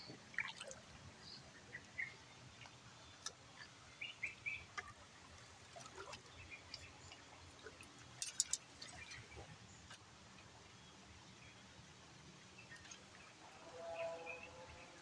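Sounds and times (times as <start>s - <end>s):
small water splashes: 0.0s - 15.0s.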